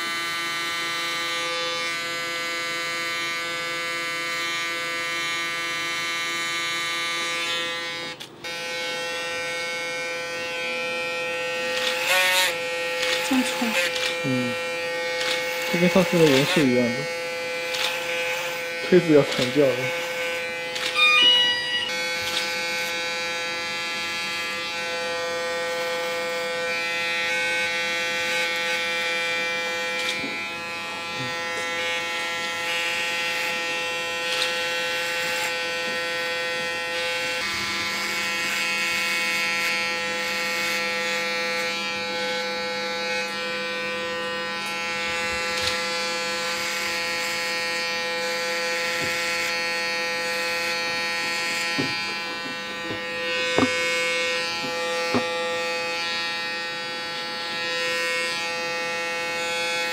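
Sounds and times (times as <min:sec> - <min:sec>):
electric hair clippers buzzing: 0:00.0 - 0:59.9.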